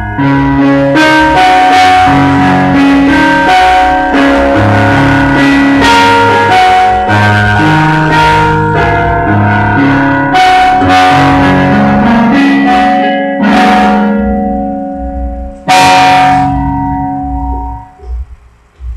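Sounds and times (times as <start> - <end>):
electronic keyboard melody: 0.0 - 18.9.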